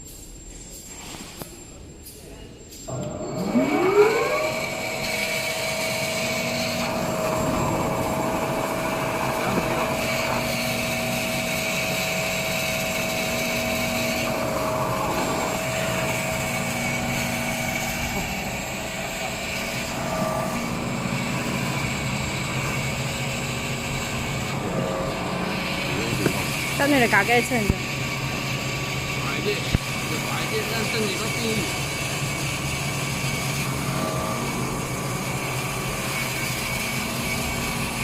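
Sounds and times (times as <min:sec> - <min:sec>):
band saw machine whining: 0:02.9 - 0:38.0
rough machine noise: 0:02.9 - 0:38.0.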